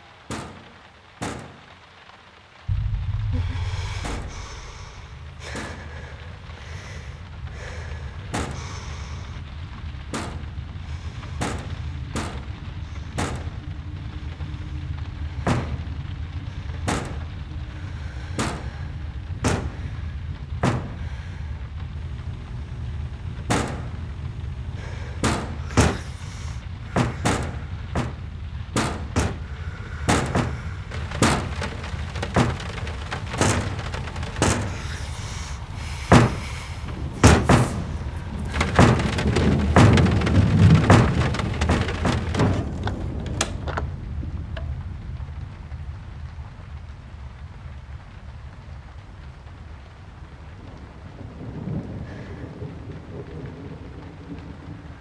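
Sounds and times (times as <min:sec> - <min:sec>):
rainstorm rumble: 0:00.0 - 0:55.0.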